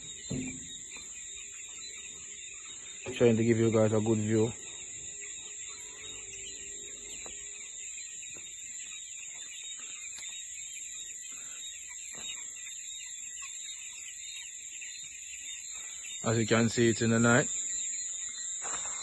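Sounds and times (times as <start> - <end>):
high-pitched cricket trill: 0.0 - 19.0
pulsing insect chirring: 0.0 - 19.0.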